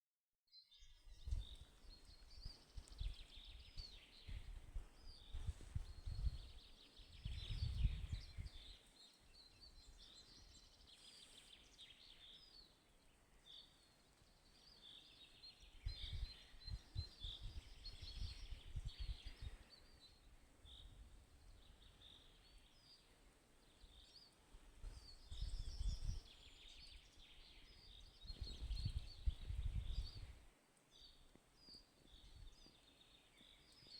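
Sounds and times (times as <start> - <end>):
songbirds chirping and trilling: 0.5 - 33.9.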